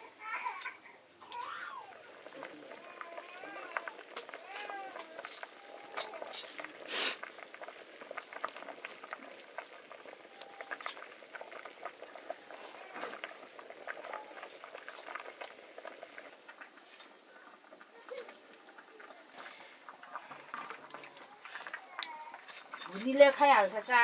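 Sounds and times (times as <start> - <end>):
liquid boiling hard in a wok: 1.3 - 24.0.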